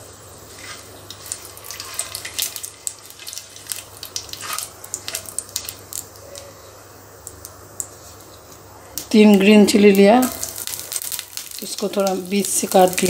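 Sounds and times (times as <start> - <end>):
seeds sizzling and popping in oil: 0.0 - 13.0.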